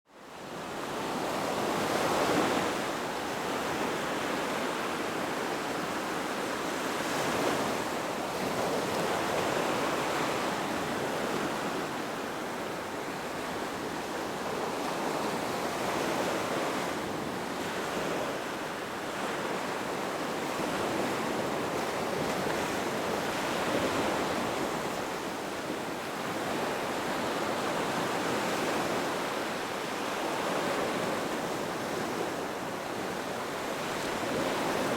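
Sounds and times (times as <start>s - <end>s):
ocean waves on a beach: 0.1s - 34.9s.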